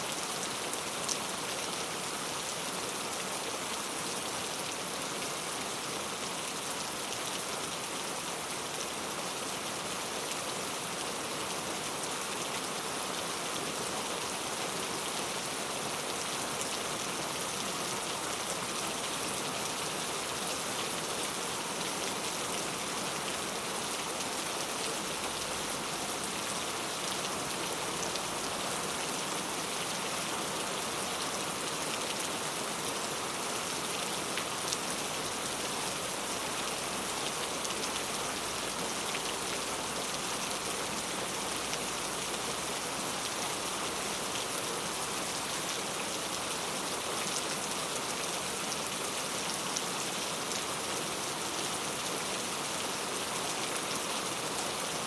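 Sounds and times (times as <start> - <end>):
heavy rain on hard surfaces: 0.0 - 55.0.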